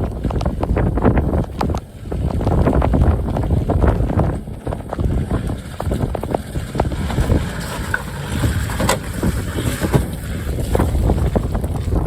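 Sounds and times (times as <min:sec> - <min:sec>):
off-road vehicle engine running: 0:00.0 - 0:12.0
wind buffeting microphone: 0:00.0 - 0:12.0
knocks and jolts from ground: 0:00.4 - 0:12.0.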